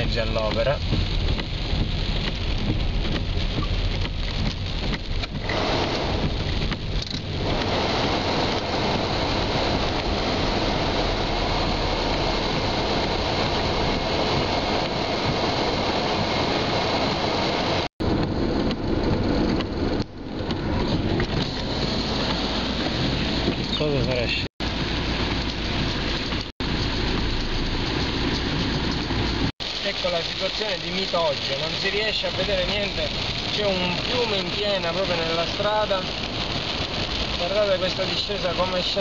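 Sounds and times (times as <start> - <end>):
rain on windscreen: 0.0 - 39.0
tyres rushing through water: 0.0 - 39.0.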